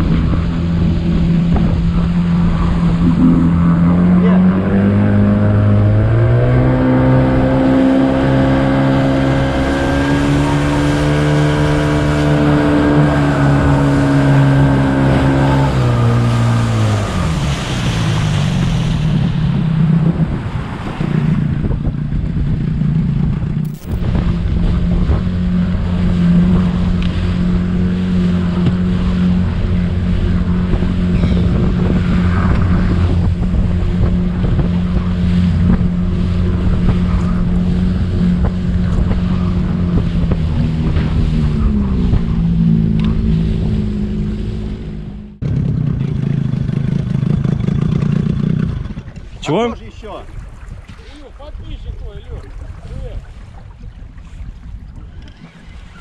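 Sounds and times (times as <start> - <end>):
outboard motor running: 0.0 - 56.0
water rushing: 0.0 - 56.0
wind: 0.0 - 56.0.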